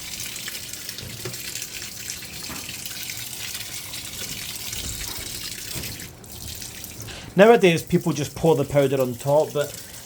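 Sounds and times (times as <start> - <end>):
water pouring into washing machine: 0.0 - 10.0.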